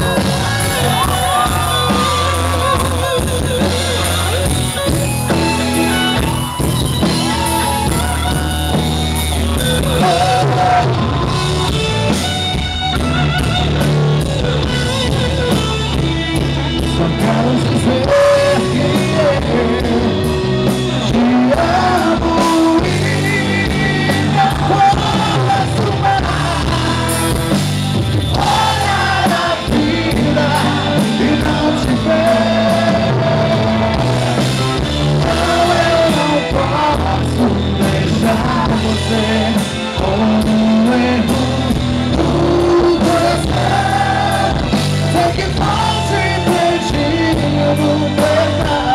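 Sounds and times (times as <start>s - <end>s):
gospel band with lead singer: 0.0s - 48.9s.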